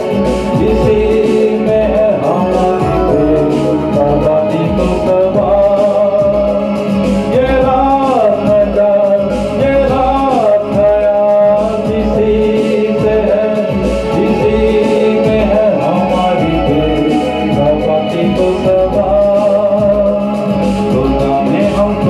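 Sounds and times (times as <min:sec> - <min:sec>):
backing track with steady beat: 0:00.0 - 0:22.0
man singing into a microphone: 0:00.0 - 0:22.0.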